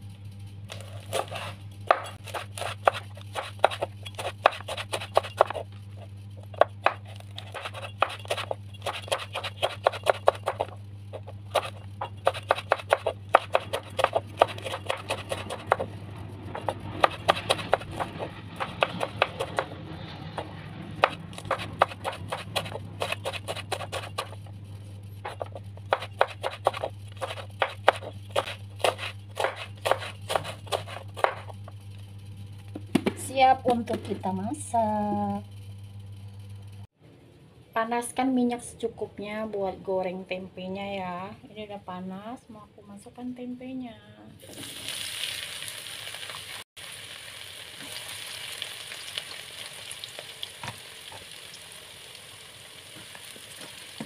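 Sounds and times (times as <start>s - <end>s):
steady low hum: 0.0s - 44.4s.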